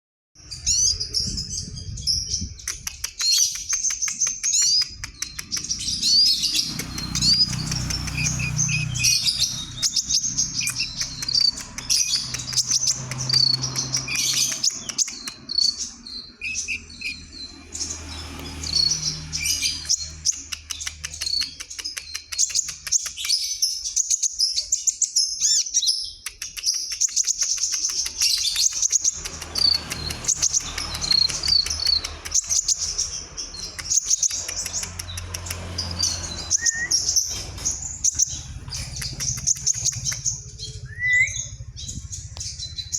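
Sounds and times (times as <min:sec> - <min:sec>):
bird singing whistles and trills: 0:00.5 - 0:42.9.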